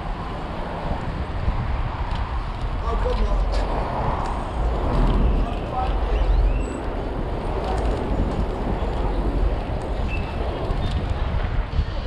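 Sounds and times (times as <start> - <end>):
road and traffic noise: 0.0 - 12.0
wind rushing over microphone: 0.0 - 12.0.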